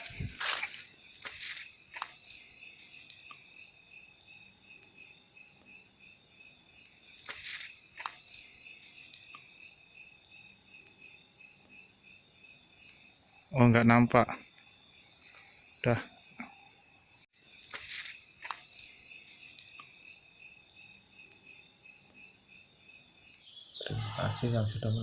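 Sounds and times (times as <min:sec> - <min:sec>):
crickets and insects chirping: 0:00.0 - 0:25.0.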